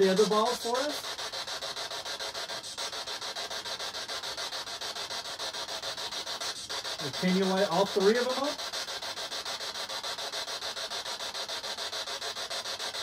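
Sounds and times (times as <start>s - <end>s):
pulsing static hiss: 0.0s - 13.0s.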